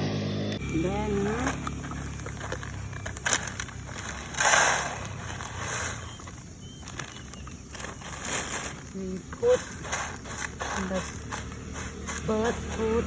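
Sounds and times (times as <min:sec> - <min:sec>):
craft materials rustling: 0:01.1 - 0:13.0.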